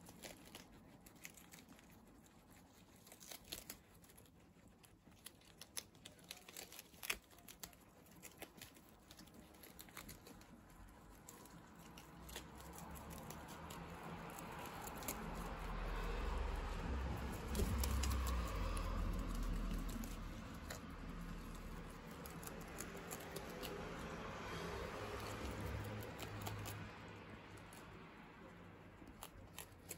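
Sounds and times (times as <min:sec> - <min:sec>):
guinea pigs crunching lettuce: 0:00.0 - 0:29.9
low background rumble: 0:03.7 - 0:29.9.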